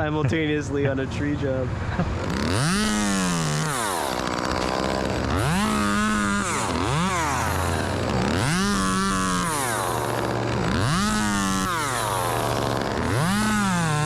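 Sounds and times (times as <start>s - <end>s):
chainsaw revving: 1.9s - 14.0s.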